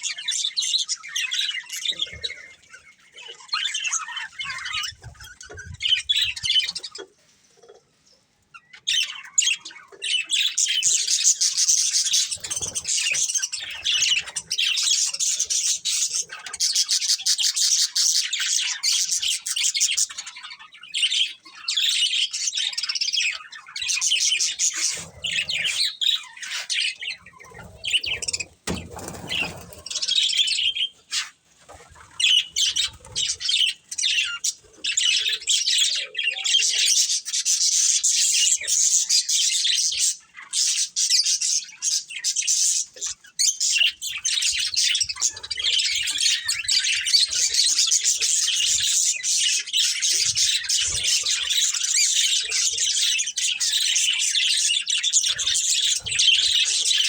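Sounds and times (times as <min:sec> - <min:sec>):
budgerigars chirping and warbling: 0:00.0 - 0:57.0.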